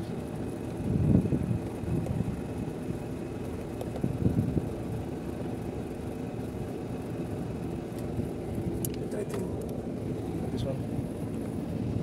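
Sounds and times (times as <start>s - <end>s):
air conditioning hum and rumble: 0.0s - 12.0s.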